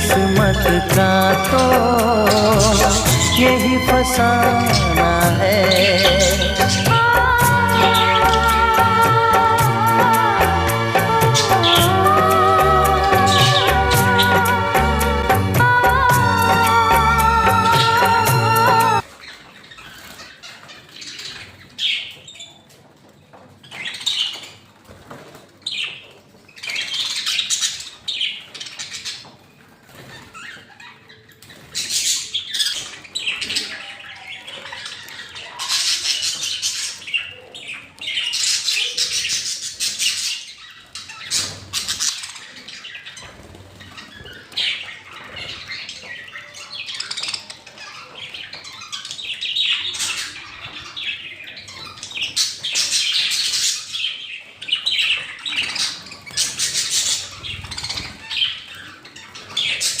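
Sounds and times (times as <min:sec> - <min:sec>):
birds squawking and chirping: 0:00.0 - 1:00.0.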